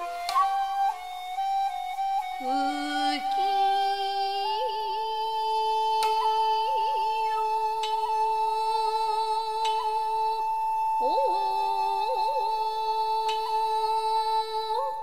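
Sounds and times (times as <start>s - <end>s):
shakuhachi flute long note: 0.0s - 15.0s.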